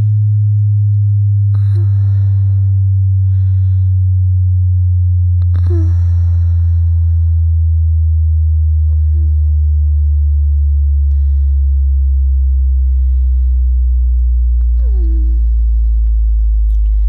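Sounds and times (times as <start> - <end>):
low sine tone sweeping down: 0.0 - 17.0.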